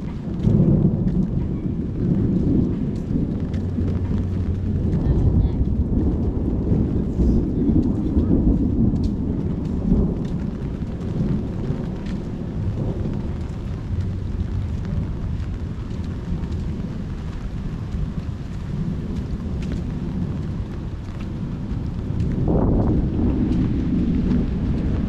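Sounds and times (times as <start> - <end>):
rolling thunder: 0.0 - 25.0
steady rain: 0.0 - 25.0.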